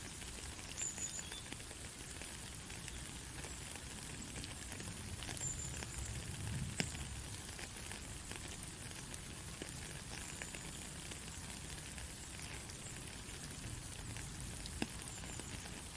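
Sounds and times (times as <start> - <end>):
rain falling on a road: 0.0 - 15.9.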